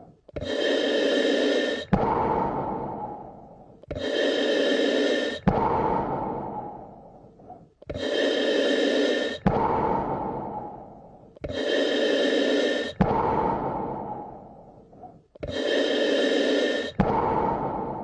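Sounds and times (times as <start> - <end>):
deep human breathing: 0.0 - 18.0.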